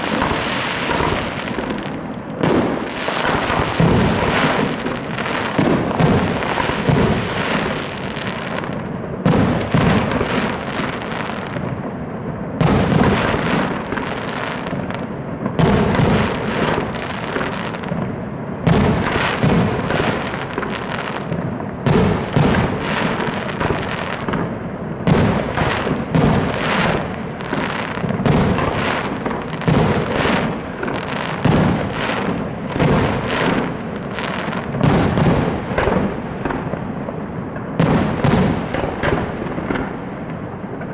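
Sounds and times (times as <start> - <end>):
firework bursts and bangs: 0.0 - 40.9
fireworks crackling: 0.0 - 40.9
heavy firework booms: 0.0 - 40.9.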